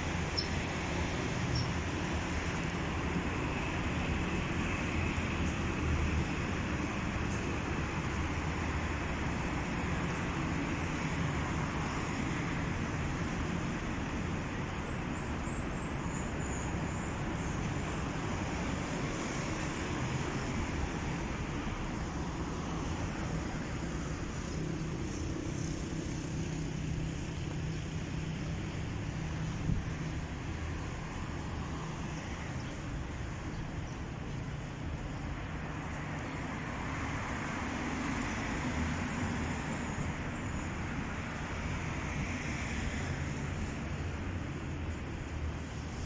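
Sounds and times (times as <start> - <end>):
street traffic hum: 0.0 - 46.0.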